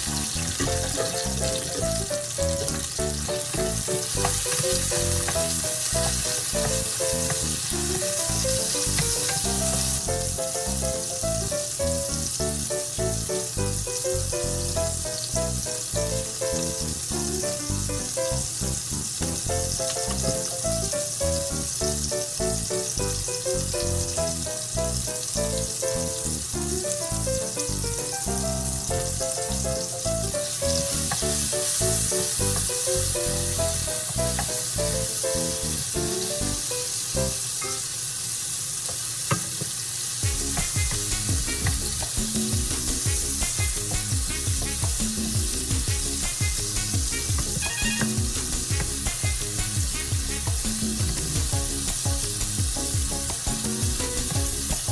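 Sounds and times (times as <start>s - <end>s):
food sizzling in a frying pan: 0.0s - 54.9s
background music: 0.2s - 37.4s, 40.2s - 54.9s.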